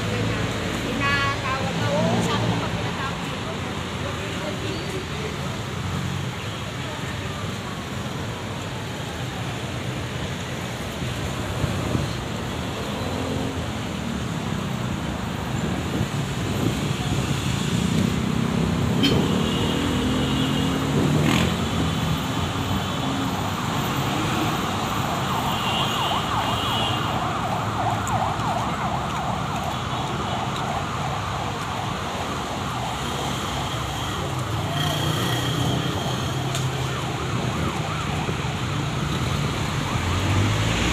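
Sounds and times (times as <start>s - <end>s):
vehicle engines passing: 0.0s - 40.9s.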